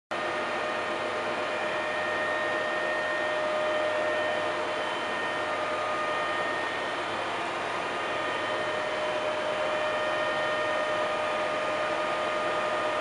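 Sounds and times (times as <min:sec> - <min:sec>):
constant machine whine: 0:00.1 - 0:13.0
milling machine whirring: 0:00.3 - 0:13.0.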